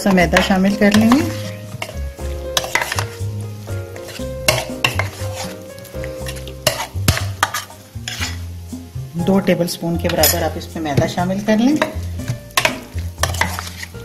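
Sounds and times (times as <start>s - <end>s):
spoon stirring wet mixture: 0.0s - 8.4s, 10.0s - 14.0s
oil sizzling in frying pan: 0.0s - 14.0s.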